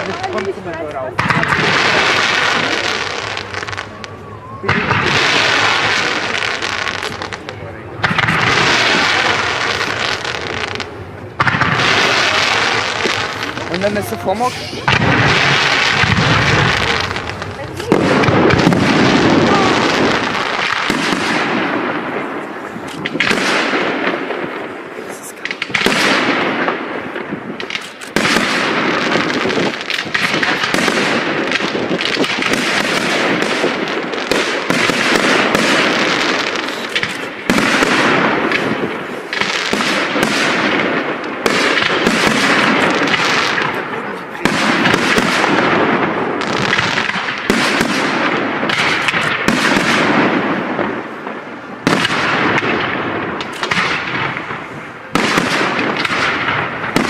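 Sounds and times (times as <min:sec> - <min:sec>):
fireworks popping and crackling: 0:00.0 - 0:57.0
loud fireworks salvo: 0:00.0 - 0:57.0.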